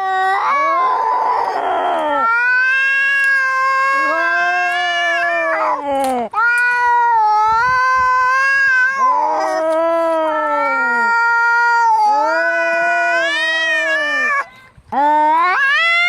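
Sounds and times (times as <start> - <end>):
cats yowling in a fight: 0.0 - 16.0.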